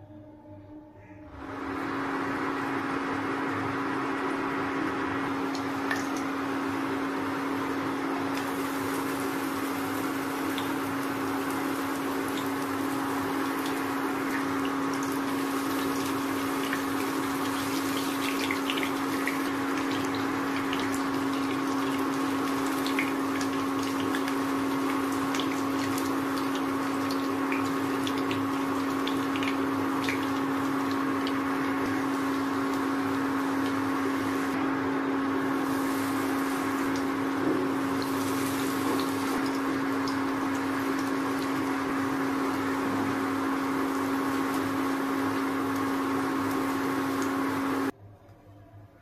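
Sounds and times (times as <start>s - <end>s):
cooktop hum: 1.3s - 48.8s
chicken frying in hot oil: 1.4s - 48.0s.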